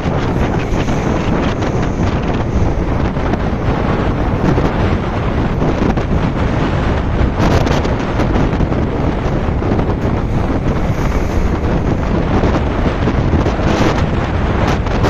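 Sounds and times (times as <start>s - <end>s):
rough sea with breaking waves: 0.0s - 15.0s
wind buffeting microphone: 0.0s - 15.0s.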